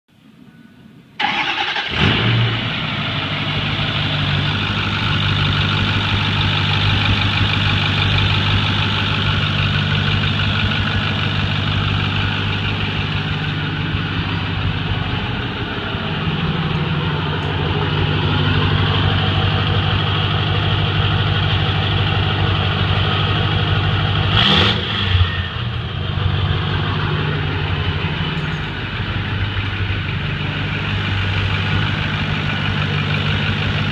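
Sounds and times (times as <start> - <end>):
diesel engine starting and idling: 1.1 - 33.9.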